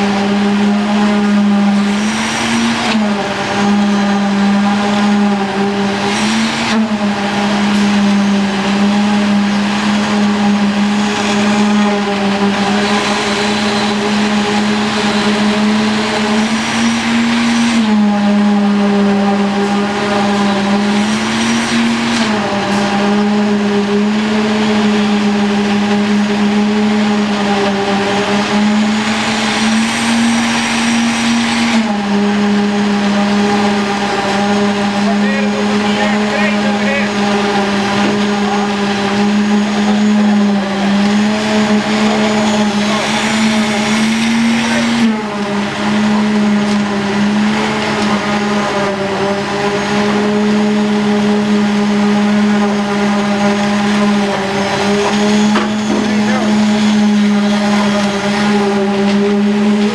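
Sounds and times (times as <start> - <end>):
engine running under load: 0.0 - 59.9.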